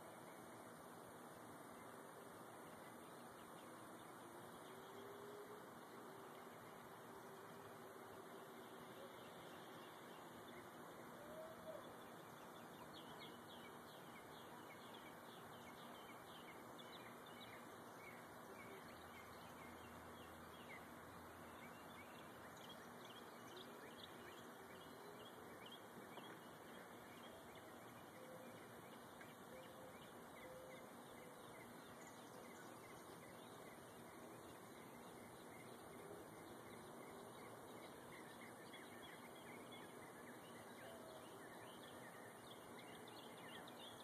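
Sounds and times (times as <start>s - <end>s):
songbirds chirping: 0.0s - 44.0s
steady low hiss: 0.0s - 44.0s.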